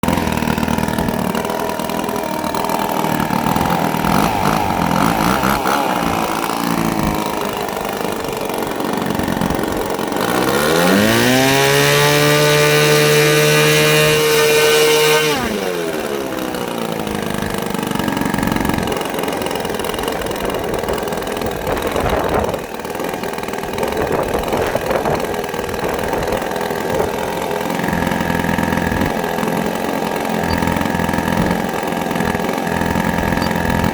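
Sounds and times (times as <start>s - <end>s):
model engine running and revving: 0.0s - 33.9s.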